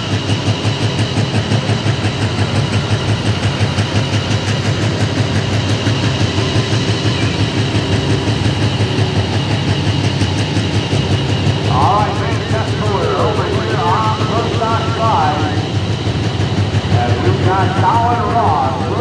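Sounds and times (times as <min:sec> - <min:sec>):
diesel engine idling loudly: 0:00.0 - 0:19.0.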